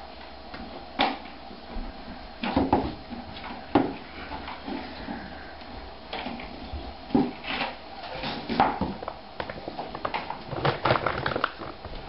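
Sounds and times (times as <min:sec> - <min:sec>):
faint steady background noise: 0:00.0 - 0:12.0.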